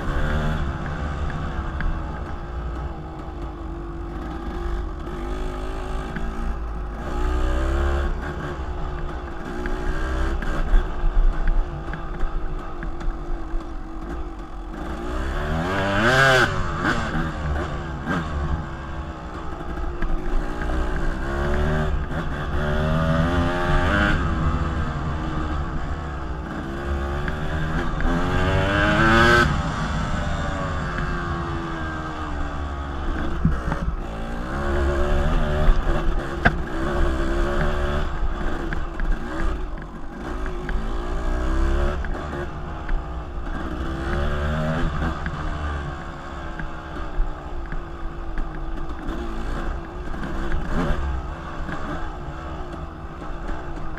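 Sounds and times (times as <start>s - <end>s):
dirt bike engine revving: 0.0s - 12.8s, 13.6s - 53.9s.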